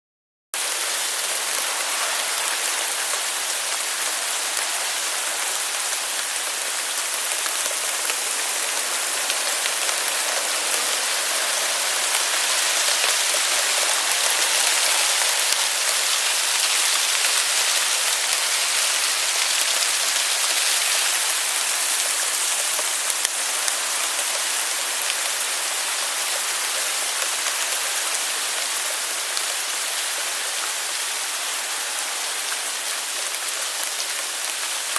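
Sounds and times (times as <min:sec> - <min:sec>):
hail falling: 0:00.6 - 0:34.9.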